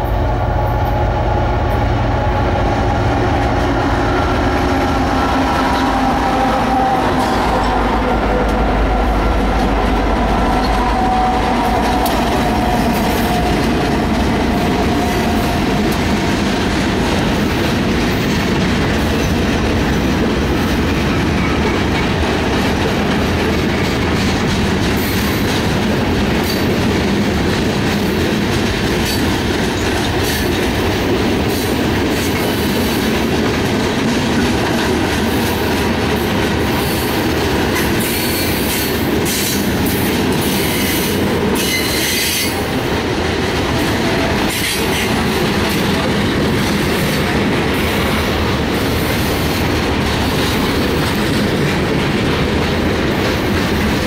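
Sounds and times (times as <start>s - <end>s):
locomotive engines rumbling and whining: 0.0s - 54.0s
train wheels clattering over rail joints: 9.5s - 54.0s.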